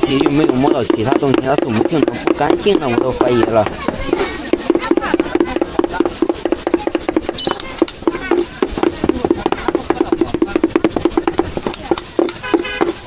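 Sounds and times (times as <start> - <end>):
cleaver chopping meat on wood: 0.0 - 13.0.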